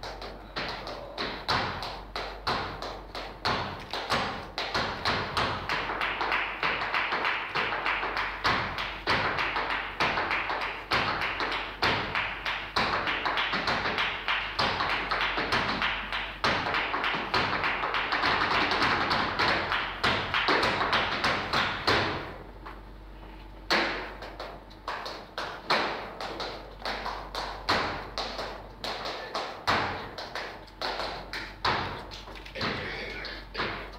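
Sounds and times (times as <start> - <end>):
dance shoes tapping and stamping: 0.0 - 22.8, 23.7 - 33.9.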